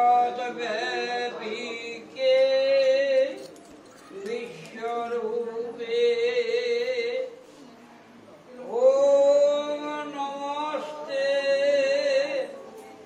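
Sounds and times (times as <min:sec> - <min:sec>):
person chanting a hymn: 0:00.0 - 0:03.5, 0:04.1 - 0:07.4, 0:08.6 - 0:12.8.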